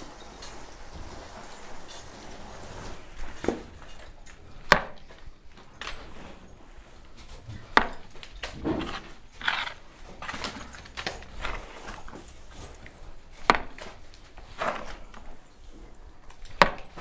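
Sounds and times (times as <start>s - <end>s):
hooves knocking on barn floor: 0.0s - 17.0s
low steady background noise: 0.0s - 17.0s.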